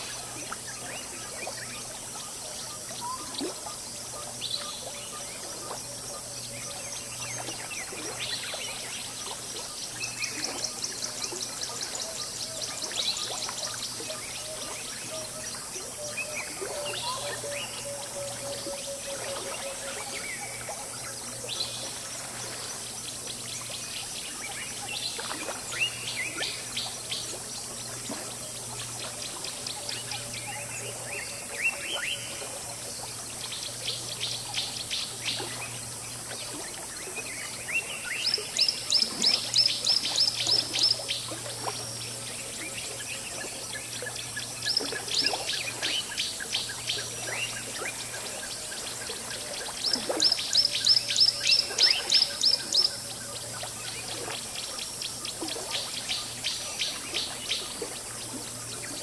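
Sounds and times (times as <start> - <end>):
flowing water babbling: 0.0 - 59.0.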